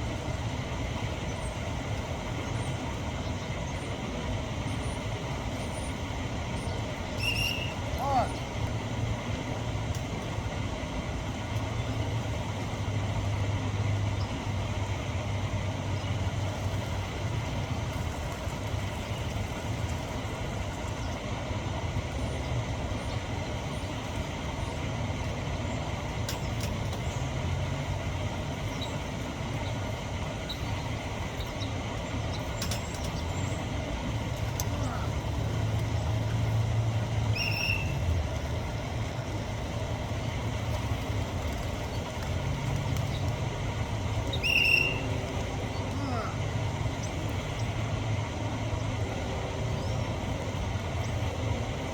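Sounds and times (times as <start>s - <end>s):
low engine hum: 0.0s - 51.9s.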